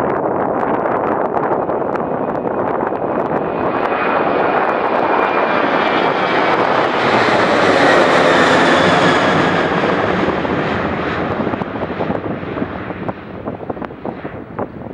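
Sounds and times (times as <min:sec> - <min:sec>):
jet engines roaring overhead: 0:00.0 - 0:14.9.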